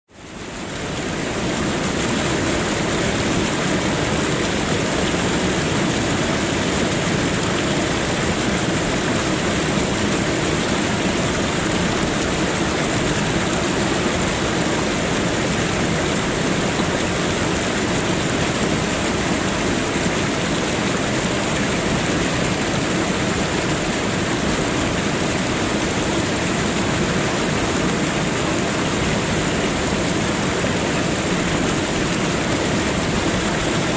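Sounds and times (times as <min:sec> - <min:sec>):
water fountain splashing: 0:00.2 - 0:33.9.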